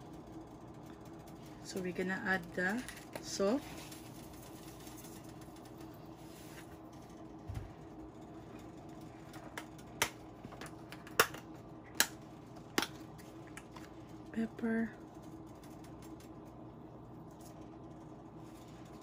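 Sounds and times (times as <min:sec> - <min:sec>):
stove low hum: 0:00.0 - 0:19.0.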